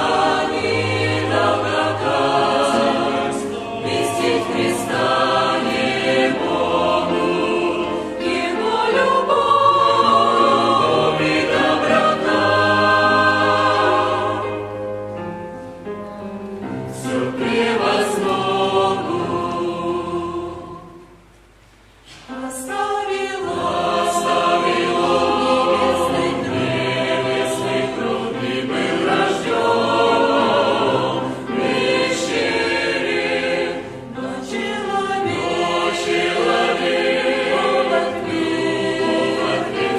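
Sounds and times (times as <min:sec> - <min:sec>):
church choir singing a hymn: 0:00.0 - 0:14.8, 0:16.8 - 0:21.3, 0:22.1 - 0:39.9.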